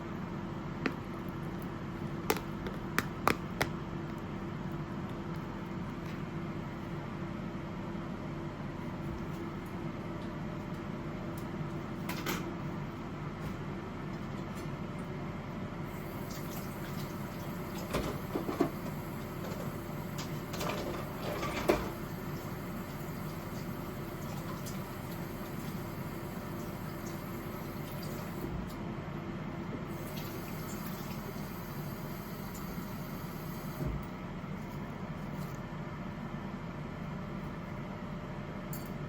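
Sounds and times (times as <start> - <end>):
steady background hum: 0.0 - 39.0.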